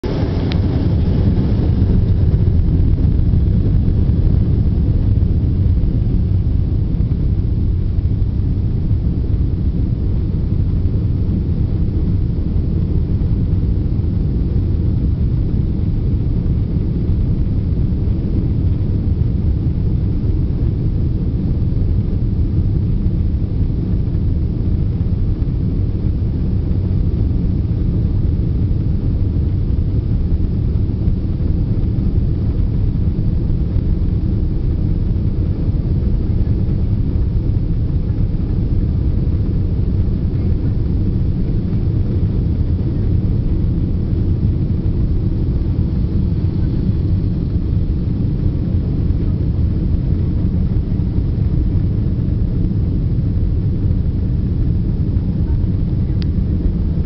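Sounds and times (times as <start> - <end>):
airplane cabin rumble on ground: 0.0 - 57.0.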